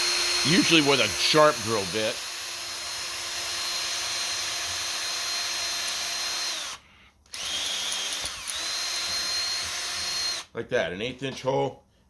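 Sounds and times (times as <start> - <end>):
electric drill whining: 0.0 - 10.5.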